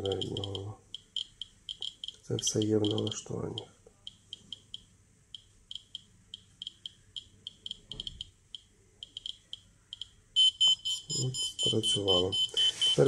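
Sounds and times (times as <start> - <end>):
dosimeter alarm beeping: 0.0 - 13.0
geiger counter chirping: 0.0 - 13.0.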